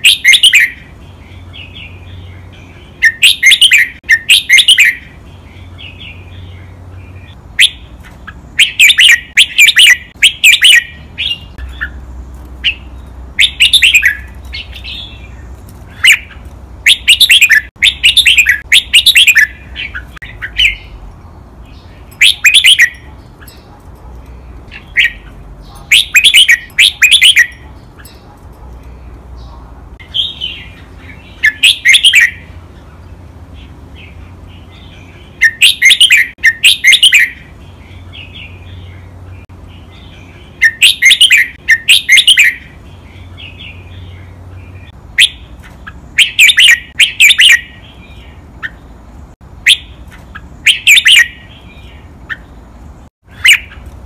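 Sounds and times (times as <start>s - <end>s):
bird singing rapid phrases: 0.0s - 54.0s
soft bird twittering: 0.0s - 54.0s.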